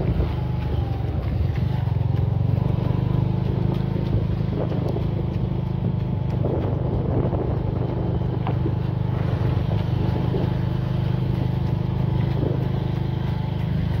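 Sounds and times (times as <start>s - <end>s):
vehicle engine running at low revs: 0.0s - 14.0s.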